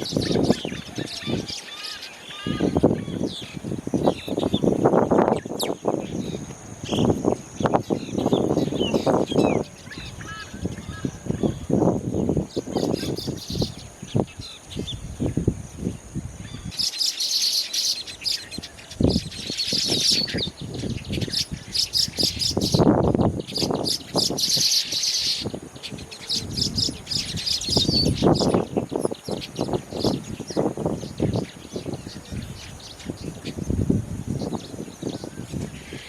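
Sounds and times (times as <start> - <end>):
birds chattering with high chirps: 0.0 - 36.0.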